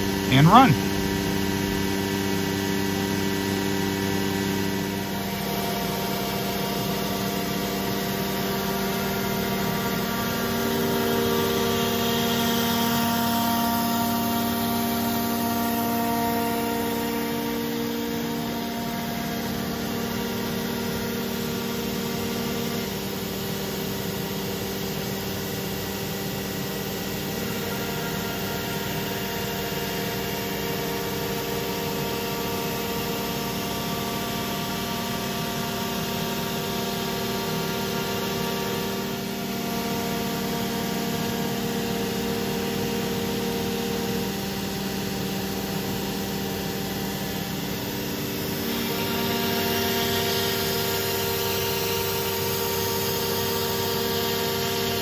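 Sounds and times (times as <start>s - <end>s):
cnc router spindle humming: 0.0s - 55.0s.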